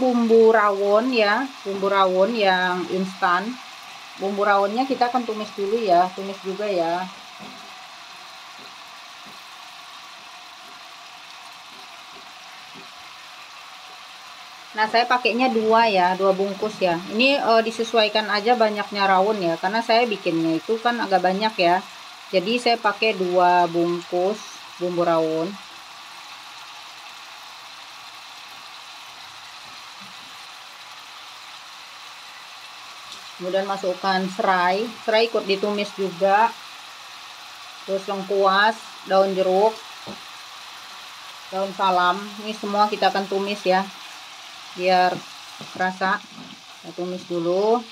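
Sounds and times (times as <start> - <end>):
oil sizzling in a wok: 0.0 - 47.9.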